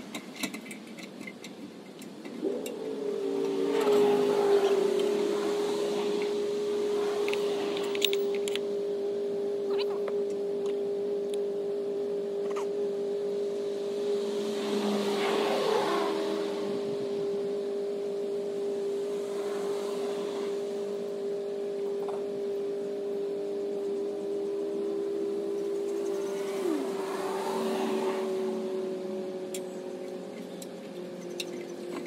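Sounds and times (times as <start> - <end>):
steady motor-like hum: 0.0 - 32.0.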